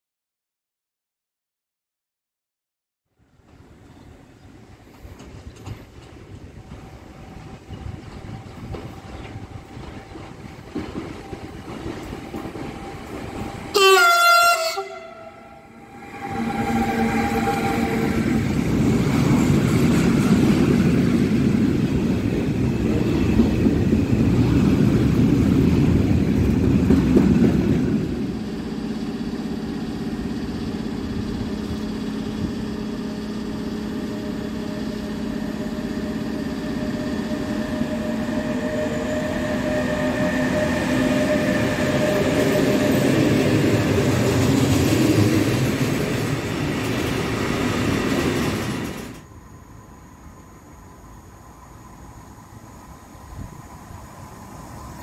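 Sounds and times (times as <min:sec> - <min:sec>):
freight train rumbling past: 0:03.2 - 0:55.0.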